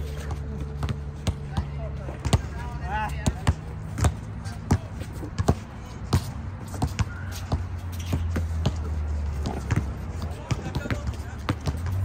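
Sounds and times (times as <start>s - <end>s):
basketball bouncing on hard court: 0.1s - 12.0s.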